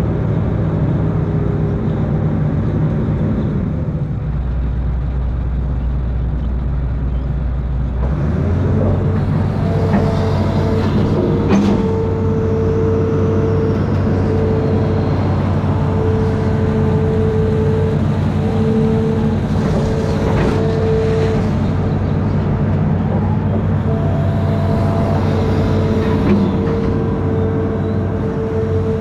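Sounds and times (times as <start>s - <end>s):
diesel engine running: 0.0s - 29.0s
engine whine: 0.0s - 29.0s.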